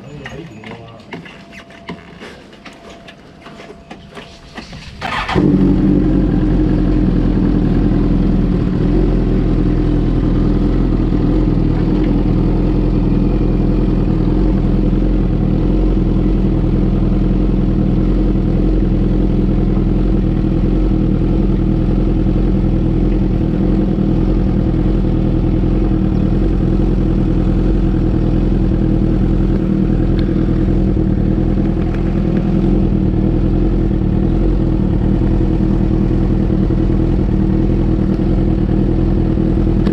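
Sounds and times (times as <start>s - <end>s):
motorcycle engine idling: 4.5s - 39.9s.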